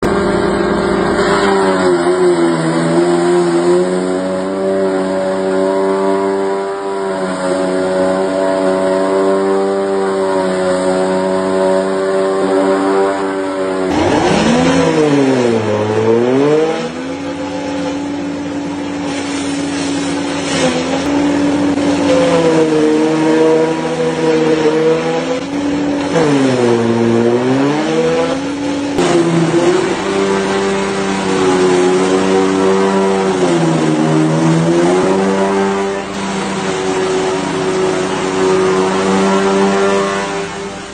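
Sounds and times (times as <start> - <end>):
farm machinery engine running: 0.0 - 39.7.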